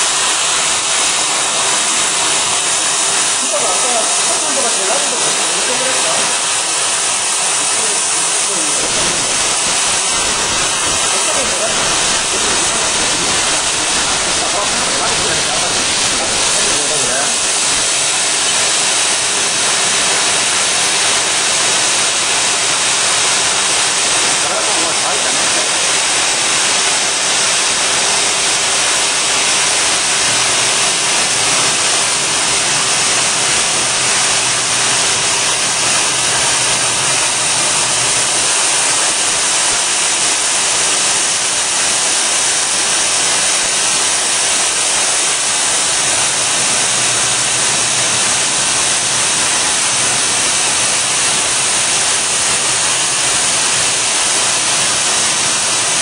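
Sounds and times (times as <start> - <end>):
welding machine hiss: 0.0 - 56.0.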